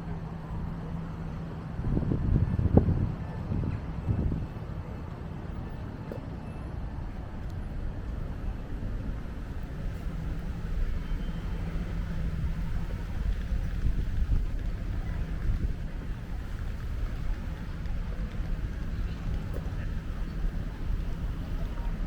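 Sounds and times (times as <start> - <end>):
outdoor ambience: 0.0 - 22.0
wind buffeting microphone: 0.0 - 22.0.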